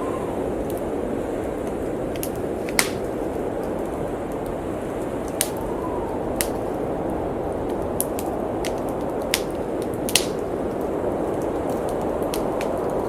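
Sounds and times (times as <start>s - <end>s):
blizzard wind rushing: 0.0s - 13.0s
whistling wind gust: 0.0s - 13.0s
wood fire popping and crackling: 0.0s - 13.0s.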